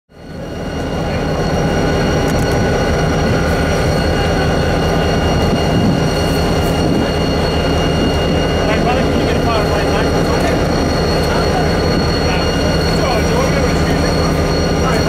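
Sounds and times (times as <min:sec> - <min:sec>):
diesel locomotive idling: 0:00.1 - 0:15.0
high-pitched whine: 0:00.1 - 0:15.0.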